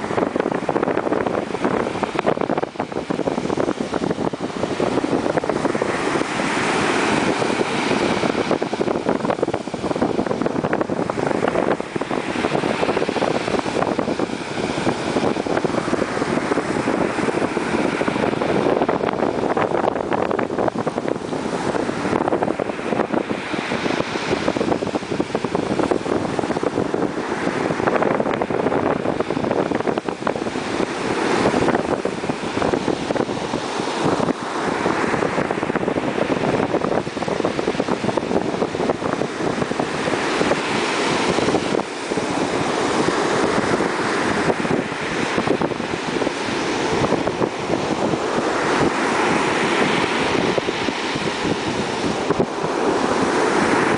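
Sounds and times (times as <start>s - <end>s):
surf breaking on beach: 0.0s - 53.9s
wind buffeting microphone: 0.0s - 53.9s.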